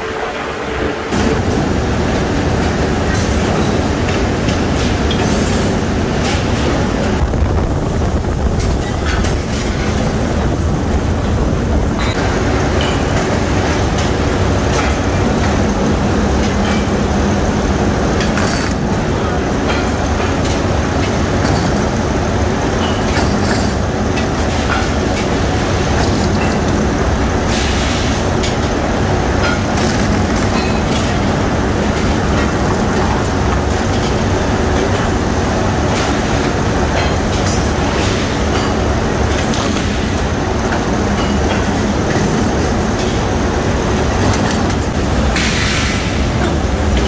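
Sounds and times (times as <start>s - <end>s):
rolling mill rumble and clatter: 0.0s - 47.0s.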